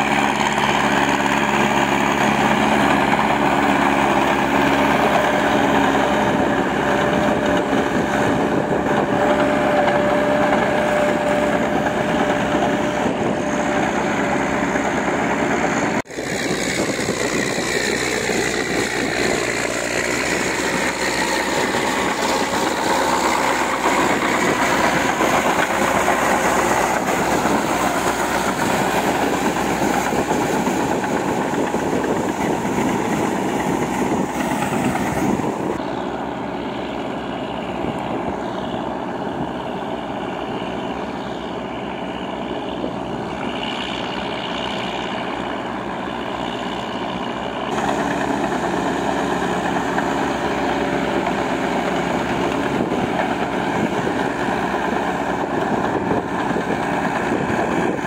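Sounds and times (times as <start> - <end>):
tractor engines running: 0.0 - 58.0.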